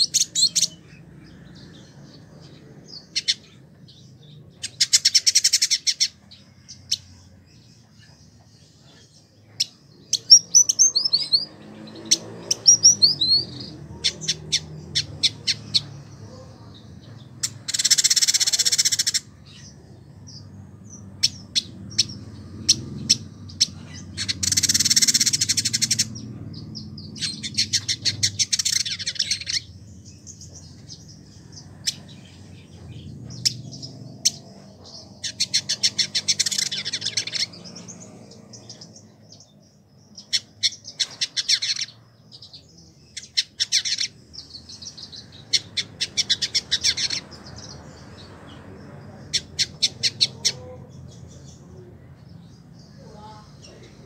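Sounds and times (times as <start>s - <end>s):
bird chattering trills: 0.0s - 48.1s, 48.8s - 54.0s
sharp bird chips: 4.6s - 7.1s, 9.5s - 50.6s.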